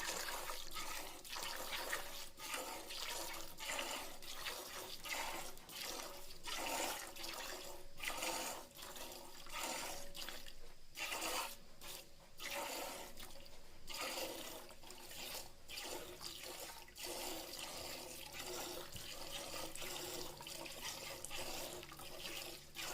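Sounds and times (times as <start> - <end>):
milk squirting into pail: 0.0 - 22.9.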